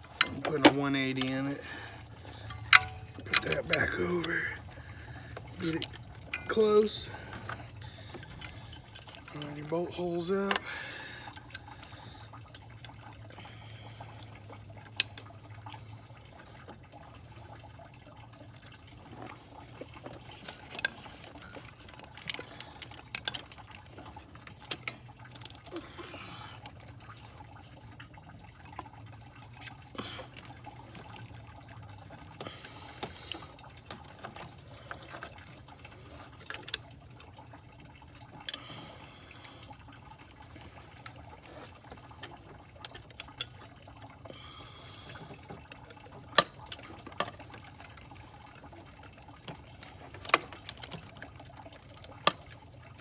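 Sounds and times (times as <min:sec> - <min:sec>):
coolant dripping and trickling: 0:00.0 - 0:53.0.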